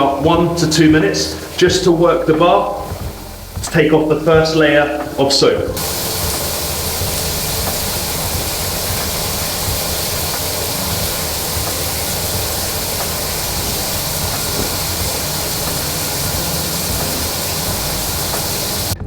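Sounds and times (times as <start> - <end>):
shower water spraying: 0.0 - 19.0.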